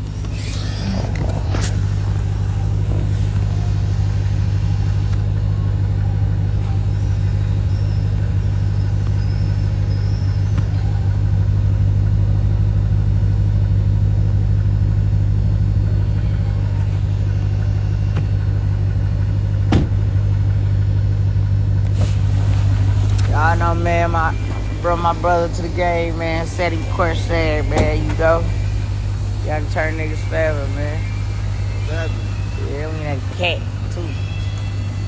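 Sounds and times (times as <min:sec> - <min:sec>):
car engine humming: 0:00.0 - 0:35.0.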